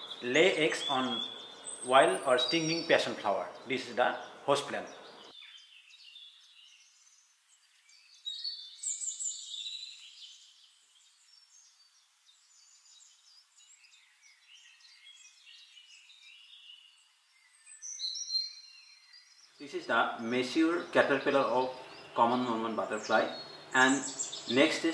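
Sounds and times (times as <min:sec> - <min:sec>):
birds chirping and calling: 0:00.0 - 0:24.9.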